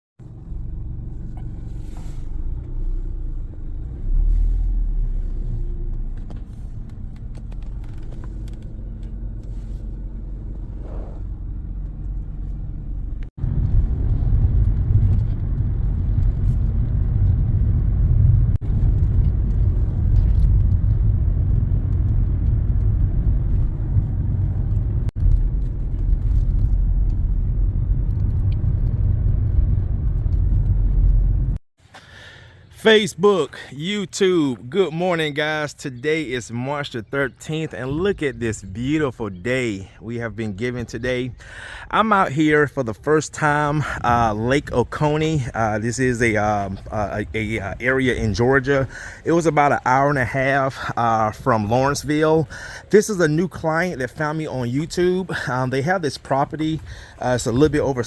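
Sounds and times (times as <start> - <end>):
car road and engine rumble: 0.2 - 58.0.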